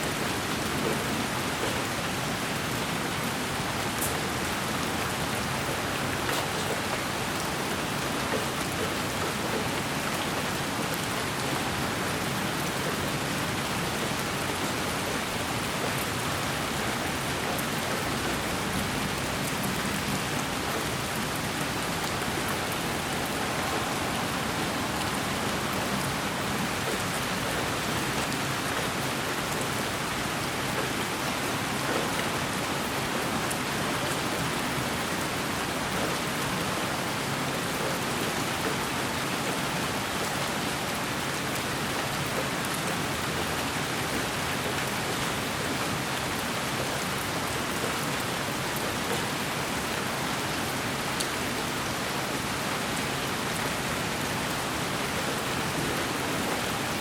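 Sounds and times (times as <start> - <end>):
rain-like white noise hiss: 0.0 - 57.0.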